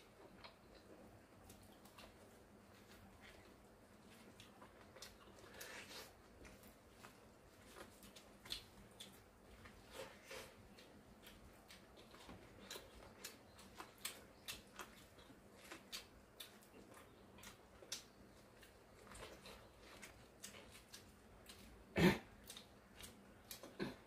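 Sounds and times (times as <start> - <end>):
corn on the cob being chewed: 0.0 - 24.0.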